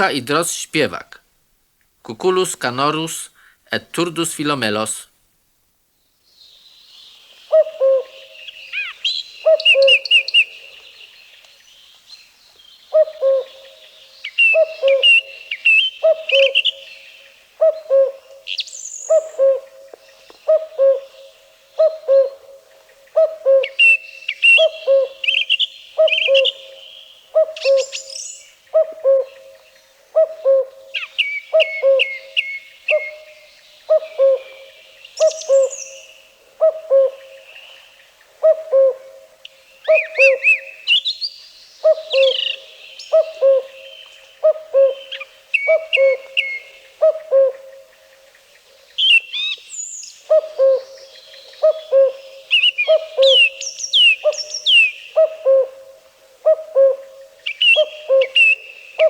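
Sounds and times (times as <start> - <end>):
cuckoo calling: 0.0 - 1.2, 7.5 - 10.9, 12.9 - 59.0
song thrush singing: 0.0 - 1.2, 5.9 - 55.8, 56.4 - 59.0.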